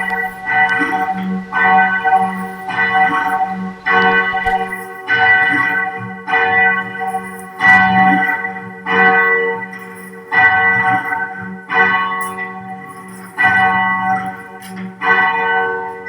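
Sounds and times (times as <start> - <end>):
large bell tolling: 0.0 - 16.0.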